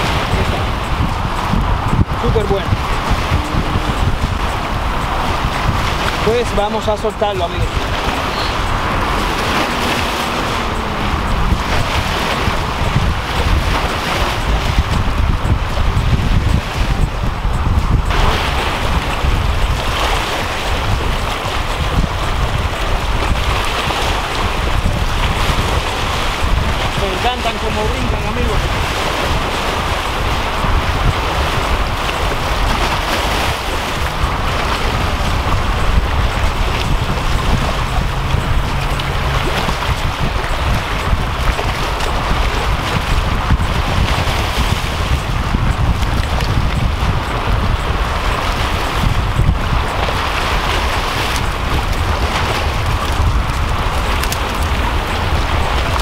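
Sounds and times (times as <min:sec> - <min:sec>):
waves washing against rocks: 0:00.0 - 0:56.0
wind buffeting microphone: 0:00.0 - 0:56.0.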